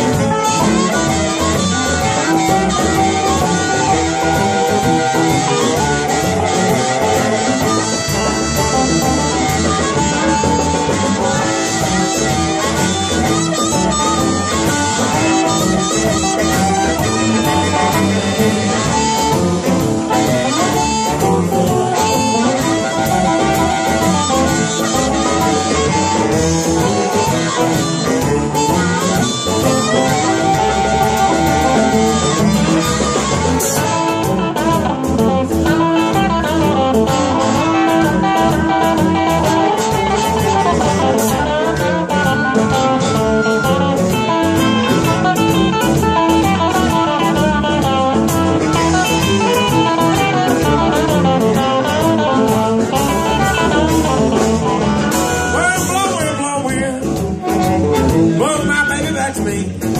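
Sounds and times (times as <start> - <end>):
amplified harmonica wailing: 0.0 - 59.7
live blues band: 0.0 - 59.9.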